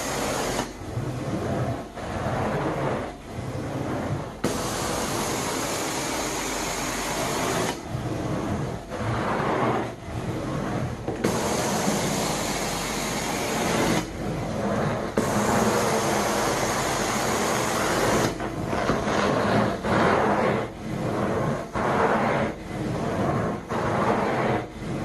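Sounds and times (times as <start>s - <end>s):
carpet cleaning machine suction: 0.0s - 25.0s.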